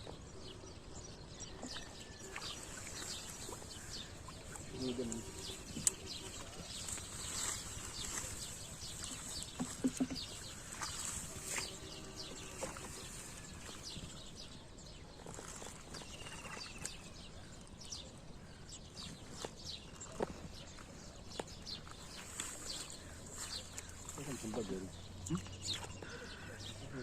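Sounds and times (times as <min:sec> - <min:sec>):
faint outdoor background: 0:00.0 - 0:27.0
small birds chirping: 0:00.0 - 0:27.0.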